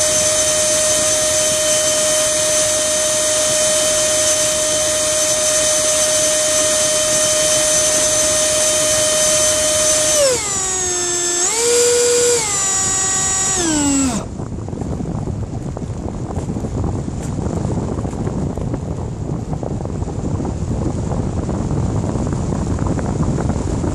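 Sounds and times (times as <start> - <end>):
electric ducted fan whining: 0.0 - 23.9
wind noise on microphone: 0.0 - 23.9.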